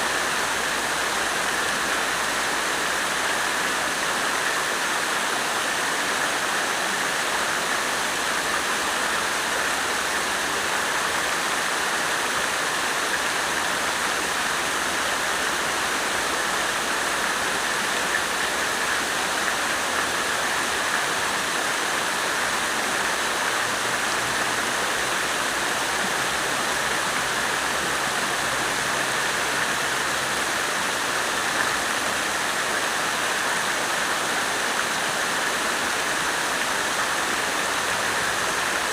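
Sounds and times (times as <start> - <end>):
water fountain splashing: 0.0 - 38.9.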